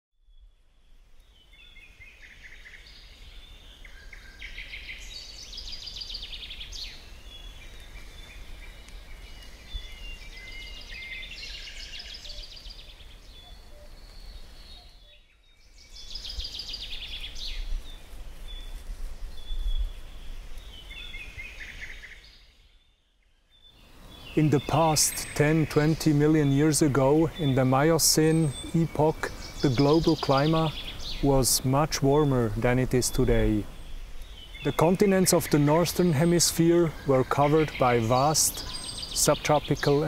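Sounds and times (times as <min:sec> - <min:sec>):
songbirds trilling and chirping: 0:00.2 - 0:40.0.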